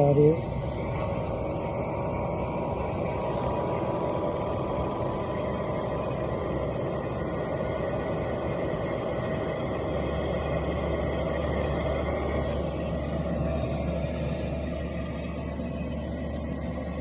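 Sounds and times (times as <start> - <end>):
heater blower whirring: 0.0 - 17.0.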